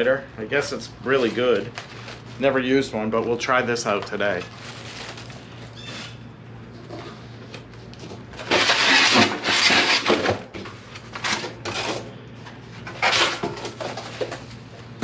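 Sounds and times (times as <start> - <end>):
packaging rustling and scraping: 1.0 - 15.0.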